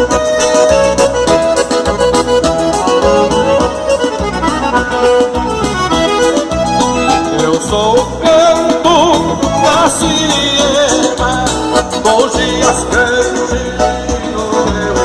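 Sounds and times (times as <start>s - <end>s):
accordion: 0.0s - 15.0s
bass and drums beat: 0.0s - 15.0s.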